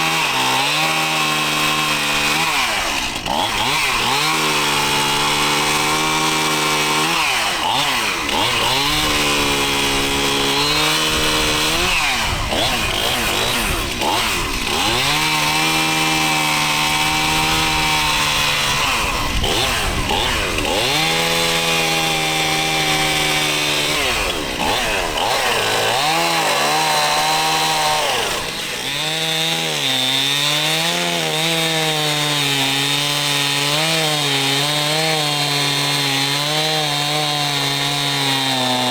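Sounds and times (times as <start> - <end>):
chainsaw cutting firewood: 0.0 - 38.9.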